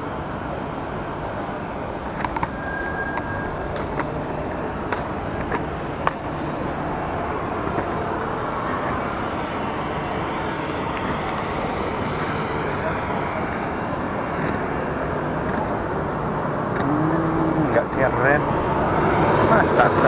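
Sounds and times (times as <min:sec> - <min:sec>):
aircraft noise roar: 0:00.0 - 0:20.0.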